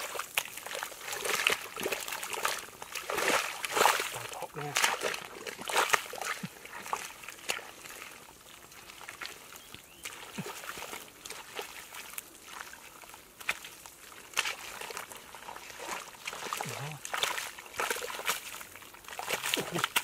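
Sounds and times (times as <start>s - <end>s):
squelches and splashes in mud: 0.0s - 20.0s.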